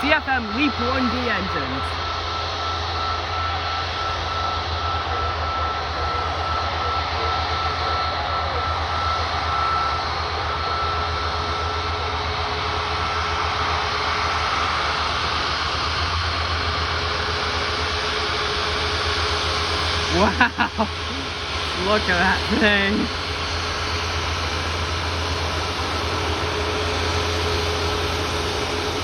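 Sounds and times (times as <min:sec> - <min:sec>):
jet engine high whine: 0:00.0 - 0:29.0
jet engines running: 0:00.0 - 0:29.0.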